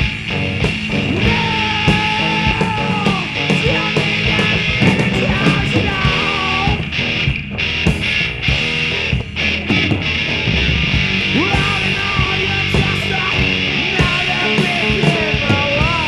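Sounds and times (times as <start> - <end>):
punk rock band playing: 0.0 - 16.0.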